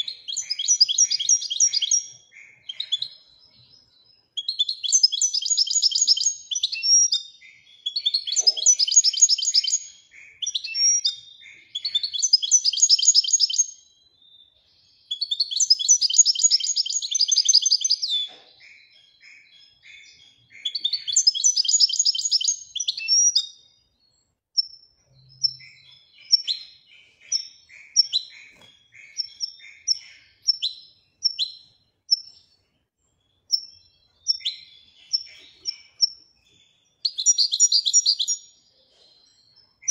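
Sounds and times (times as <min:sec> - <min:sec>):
goldfinch singing trills: 0:00.0 - 0:39.9.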